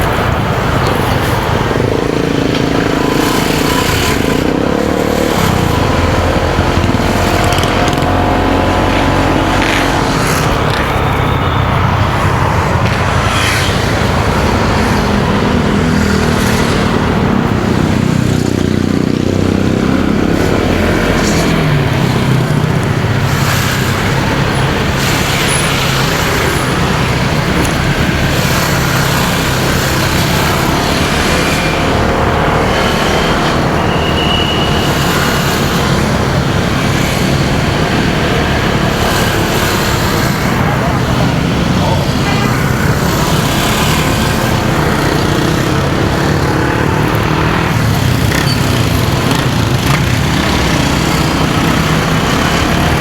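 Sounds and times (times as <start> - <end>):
motorcycle engine running: 0.0 - 53.0
road traffic: 0.0 - 53.0.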